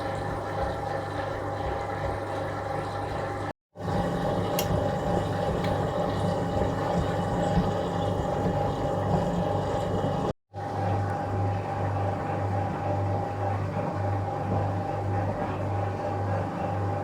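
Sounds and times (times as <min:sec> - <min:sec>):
washing machine drain pump running: 0:00.0 - 0:17.0.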